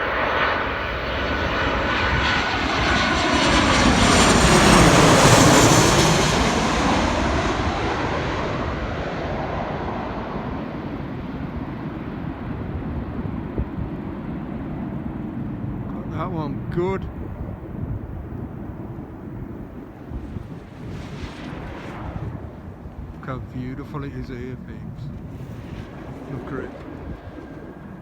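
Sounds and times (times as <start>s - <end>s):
airliner passing overhead: 0.0s - 28.0s.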